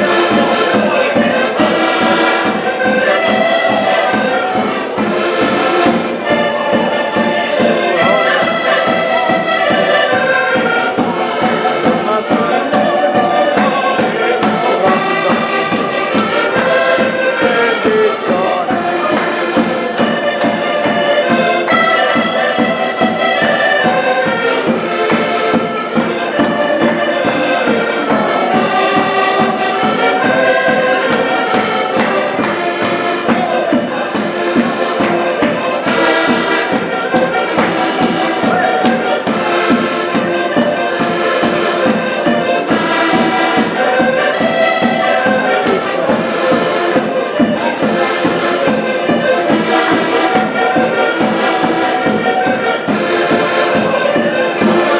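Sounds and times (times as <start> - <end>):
accordions playing folk dance tune: 0.0 - 54.9
plucked string instrument strumming: 0.0 - 54.9.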